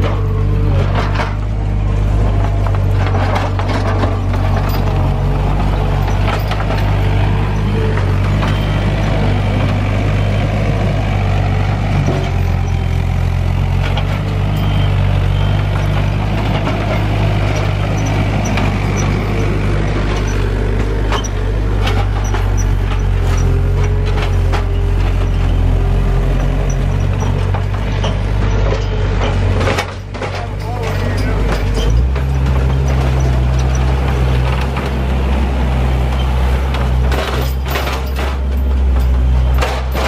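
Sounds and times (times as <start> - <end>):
diesel engine running: 0.0 - 40.0
sharp clicks and knocks: 2.2 - 8.9, 10.9 - 40.0.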